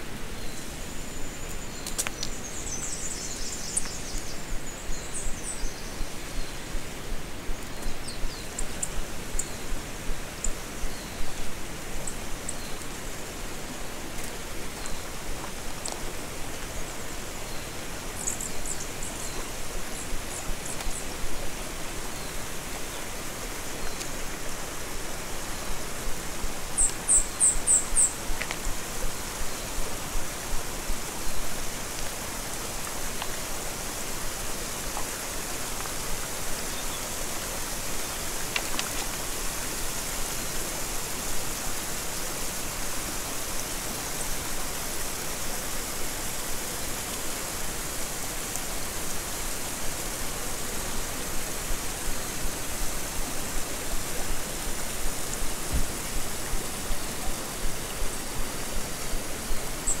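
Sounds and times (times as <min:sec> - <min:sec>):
river running over rocks: 0:00.0 - 1:00.0.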